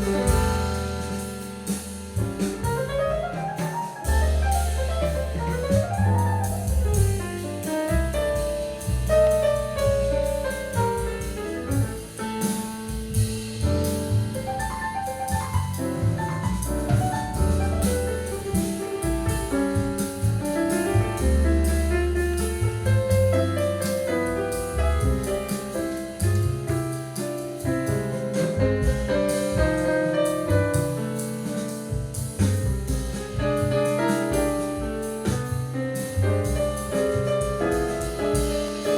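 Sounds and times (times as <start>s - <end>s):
jazzy instrumental music: 0.0s - 38.9s.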